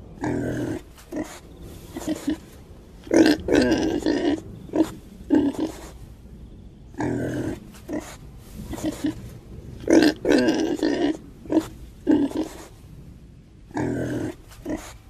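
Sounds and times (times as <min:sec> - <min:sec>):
pigs grunting: 0:00.2 - 0:06.0, 0:07.0 - 0:12.8, 0:13.7 - 0:15.0.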